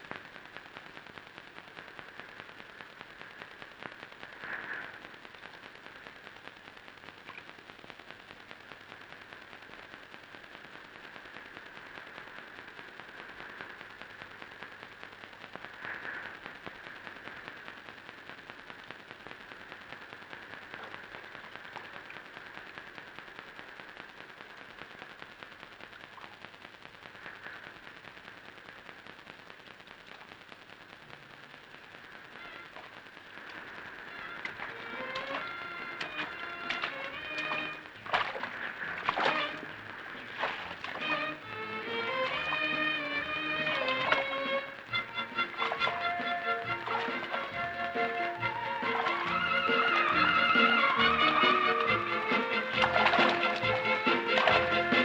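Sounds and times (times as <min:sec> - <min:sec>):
faint crackling hiss: 0:00.0 - 0:55.0.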